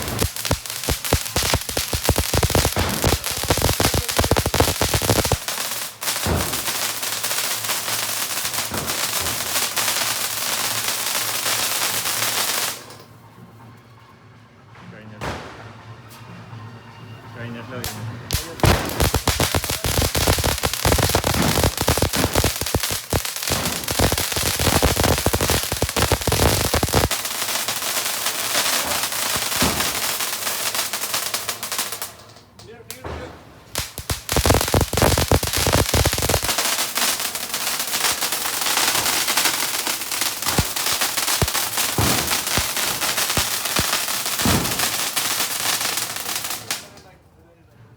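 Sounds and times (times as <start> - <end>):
firecracker bangs and crackling: 0.0 - 13.1, 15.2 - 15.9, 17.8 - 32.3, 32.9 - 47.0.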